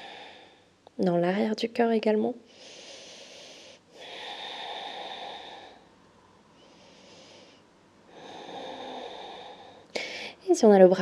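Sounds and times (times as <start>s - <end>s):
woman breathing slowly: 0.0s - 0.8s, 2.4s - 10.4s.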